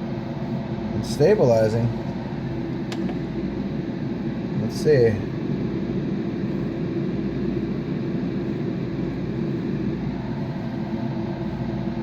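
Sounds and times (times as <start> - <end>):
inverter hum and fan whir: 0.0 - 12.0.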